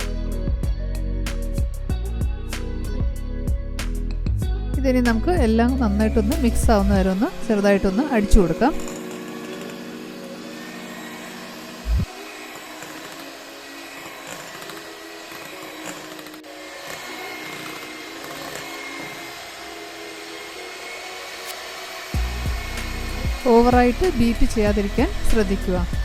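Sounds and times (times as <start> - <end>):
electric mixer whipping cream: 0.0 - 26.0.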